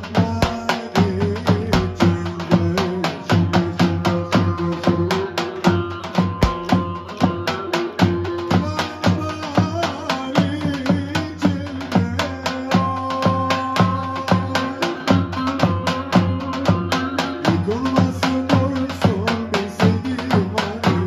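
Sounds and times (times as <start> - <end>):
bass drum beating: 0.0 - 21.0.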